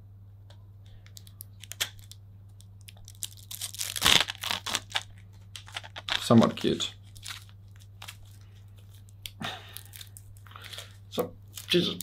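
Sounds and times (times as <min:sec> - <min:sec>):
plastic packaging crinkling: 0:01.1 - 0:12.0.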